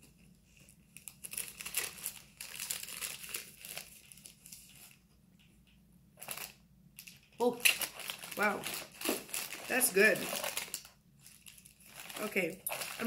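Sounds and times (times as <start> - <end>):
plastic wrapper crinkling: 0.8 - 5.0, 6.2 - 13.0.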